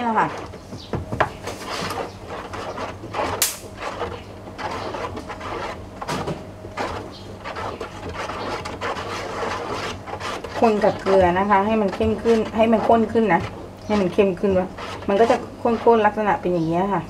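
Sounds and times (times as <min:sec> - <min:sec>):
wooden spoon stirring thick soap: 0:00.0 - 0:17.0.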